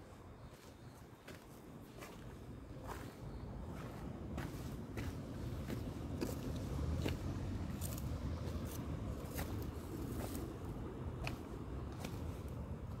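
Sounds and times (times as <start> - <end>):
footsteps and scuffs: 0.0 - 13.0.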